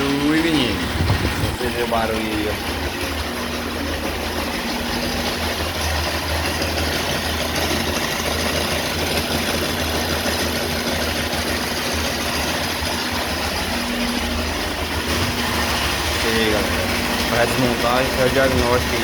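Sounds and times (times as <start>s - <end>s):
mechanical rattling noise: 0.0s - 19.0s
motorcycle engine idling: 0.0s - 19.0s.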